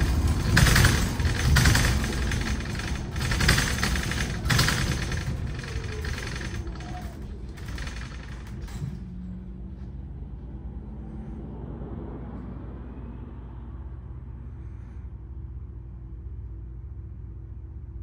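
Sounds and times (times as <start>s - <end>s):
bus rolling and rattling: 0.0s - 18.0s
low hum and rumble: 0.0s - 18.0s.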